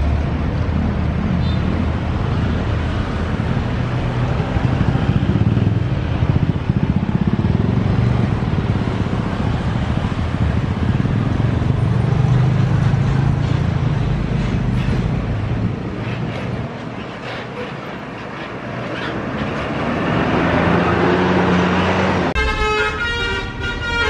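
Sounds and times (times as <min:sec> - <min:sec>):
buses passing over tracks: 0:00.0 - 0:24.0
motorcycle engines: 0:00.0 - 0:24.0.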